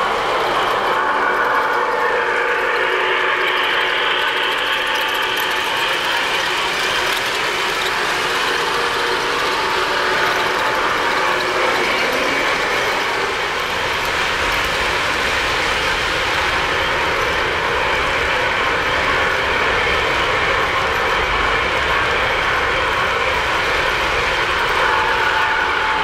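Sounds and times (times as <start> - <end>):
model train wheels clattering: 0.0 - 26.0.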